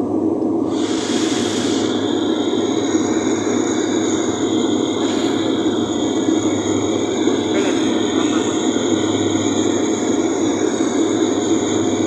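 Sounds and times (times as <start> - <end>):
airliner cabin noise: 0.0 - 12.0
steady high whine: 0.0 - 12.0.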